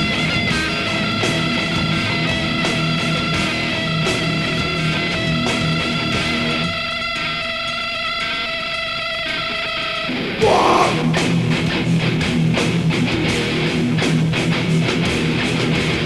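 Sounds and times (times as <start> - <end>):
distorted electric guitars: 0.0 - 16.0
drums: 0.0 - 16.0.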